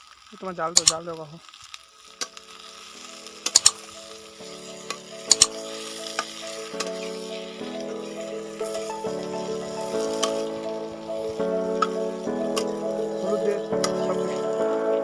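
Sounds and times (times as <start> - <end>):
food sizzling in a pot: 0.0 - 15.0
background music with sustained chords: 2.4 - 15.0.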